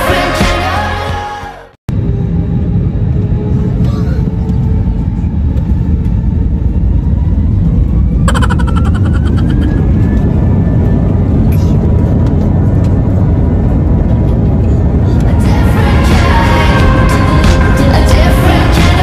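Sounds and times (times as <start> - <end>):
airliner cabin engine rumble: 1.9 - 19.0.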